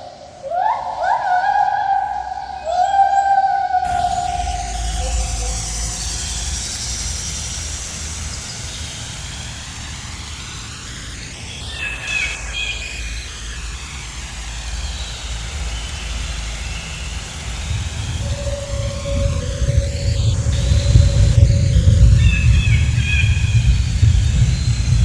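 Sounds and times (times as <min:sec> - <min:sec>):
jungle ambience rumble and hiss: 0:00.0 - 0:25.0
birds chirping: 0:00.5 - 0:09.8, 0:11.5 - 0:13.8, 0:14.8 - 0:25.0.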